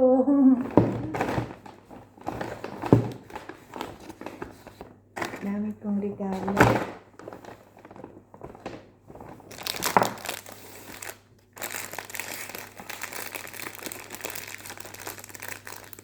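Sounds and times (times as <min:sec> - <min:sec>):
packaging crinkling: 0:00.6 - 0:16.0.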